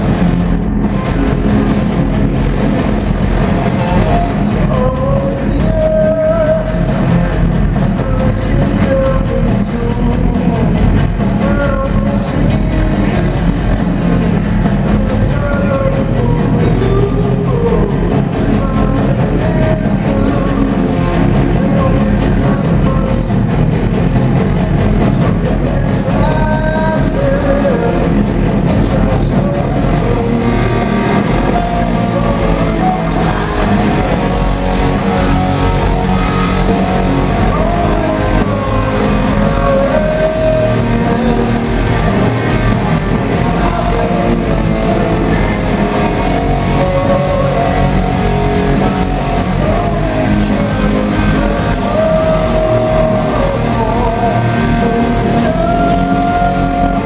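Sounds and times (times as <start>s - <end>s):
bass guitar: 0.0s - 57.0s
drums: 0.0s - 57.0s
electric guitar: 0.0s - 57.0s
man singing lead vocal: 0.0s - 57.0s.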